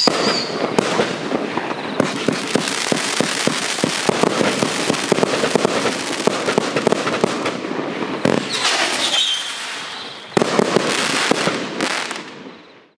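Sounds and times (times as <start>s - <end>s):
firework whistle: 0.0s - 6.0s, 8.2s - 12.9s
loud firework shot: 0.0s - 12.6s
firework crackling pops: 0.0s - 12.8s.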